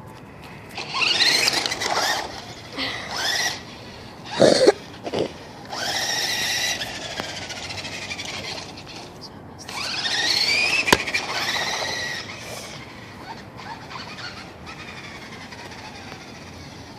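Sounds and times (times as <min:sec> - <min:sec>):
electric motor whining: 0:00.7 - 0:16.9.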